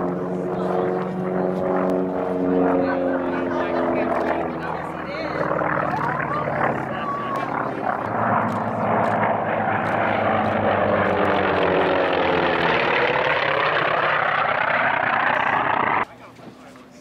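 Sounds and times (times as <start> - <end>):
propeller airplane flying by: 0.0 - 17.0.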